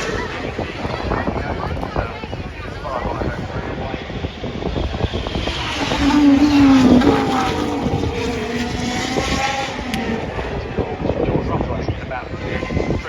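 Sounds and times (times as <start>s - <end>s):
race car passing at speed: 0.0s - 13.0s.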